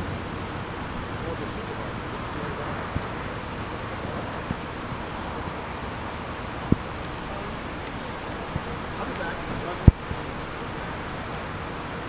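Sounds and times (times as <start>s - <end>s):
background hiss: 0.0s - 12.0s
crickets chirping: 0.0s - 12.0s.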